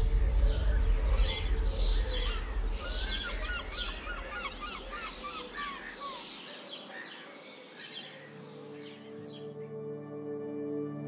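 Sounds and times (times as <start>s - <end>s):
songbirds chirping and warbling: 0.0s - 9.9s.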